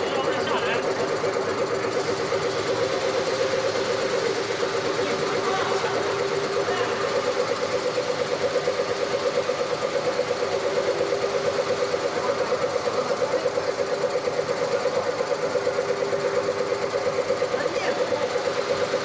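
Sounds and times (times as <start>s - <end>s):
wood-turning lathe pulsing hum: 0.0s - 19.0s.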